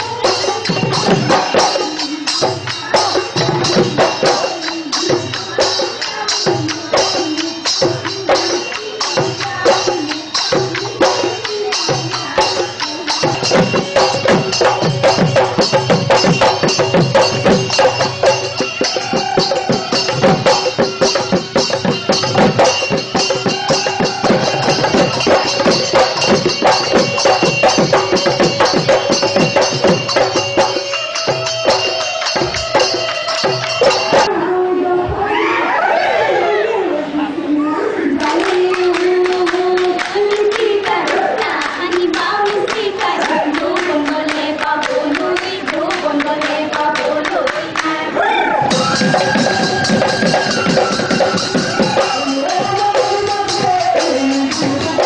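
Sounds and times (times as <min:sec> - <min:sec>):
hand drum fast rhythm: 0:00.0 - 0:34.3, 0:38.2 - 0:47.9, 0:48.6 - 0:55.0
jingling small percussion: 0:00.0 - 0:34.4, 0:38.2 - 0:48.0, 0:48.7 - 0:55.0.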